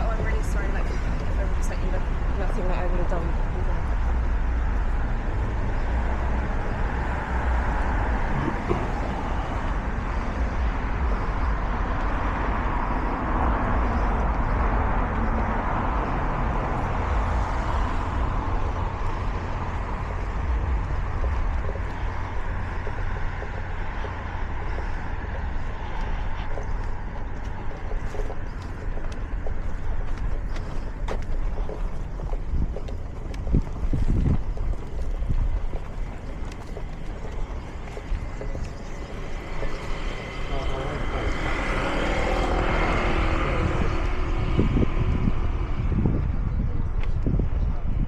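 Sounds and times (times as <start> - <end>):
street traffic noise: 0.0 - 48.0
vehicle passing: 0.0 - 48.0.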